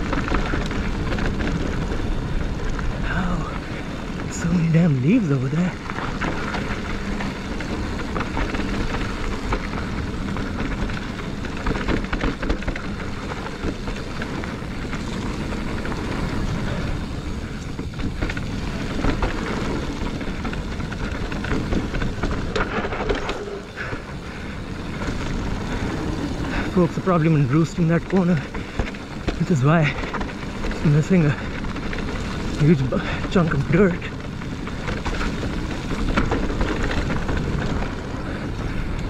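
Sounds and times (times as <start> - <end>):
tyre rumble over dirt: 0.0 - 39.0.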